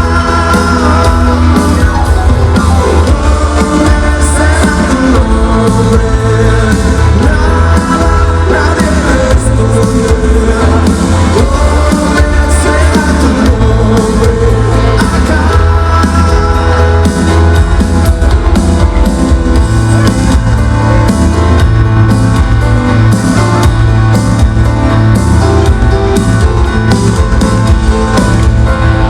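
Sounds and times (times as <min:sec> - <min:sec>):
loud rock music with singer: 0:00.0 - 0:29.0.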